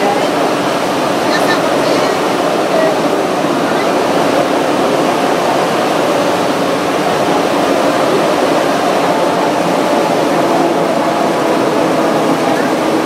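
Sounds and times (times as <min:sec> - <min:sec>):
metro train rushing through tunnel: 0:00.0 - 0:13.0.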